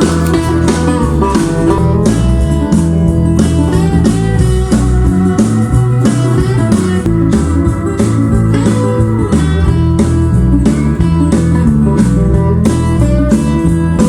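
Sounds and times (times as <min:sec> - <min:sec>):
bluesy guitar instrumental music: 0:00.0 - 0:14.0.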